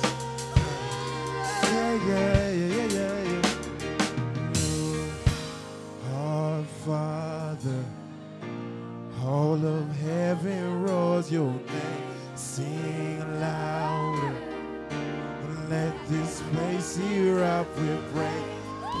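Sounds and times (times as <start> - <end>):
man singing gospel: 0.0 - 8.2, 9.1 - 14.6, 15.4 - 19.0.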